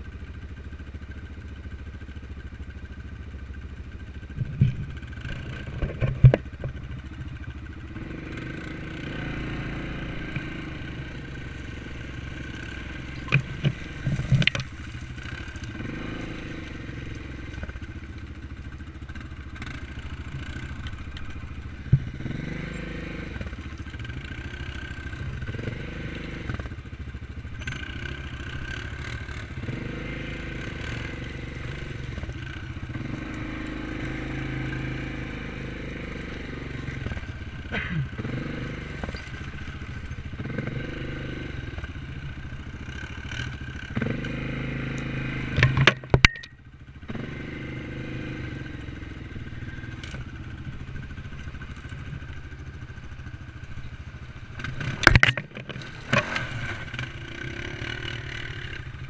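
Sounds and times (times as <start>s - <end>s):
atv engines running: 0.0s - 59.0s
vehicles scraping through brush: 7.9s - 46.2s, 47.1s - 59.0s.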